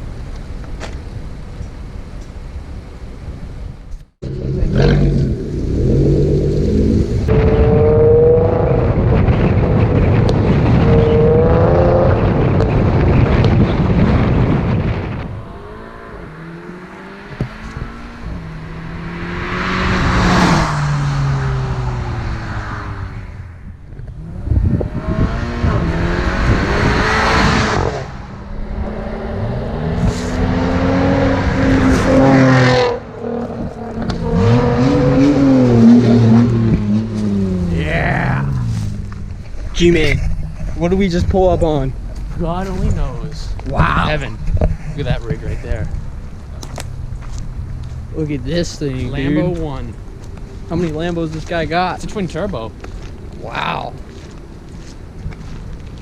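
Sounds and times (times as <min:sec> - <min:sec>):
car engines revving: 0:02.1 - 0:56.0.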